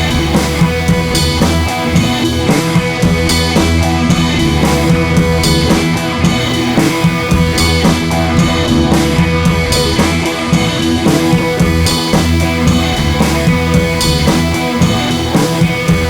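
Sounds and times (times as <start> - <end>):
rock music with drums and guitar: 0.0 - 16.0.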